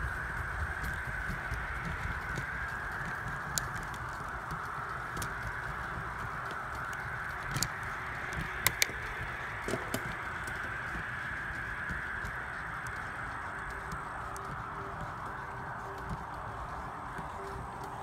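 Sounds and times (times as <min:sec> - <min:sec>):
bicycle clicks and rattles: 0:00.0 - 0:18.0
bicycle tyres rolling on concrete: 0:00.0 - 0:18.0
wind noise: 0:00.0 - 0:18.0.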